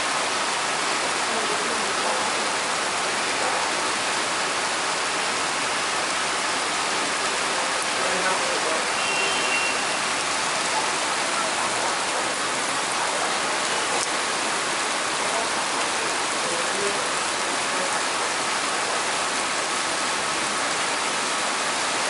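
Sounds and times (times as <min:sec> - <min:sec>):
torrential rain pouring: 0:00.0 - 0:22.0.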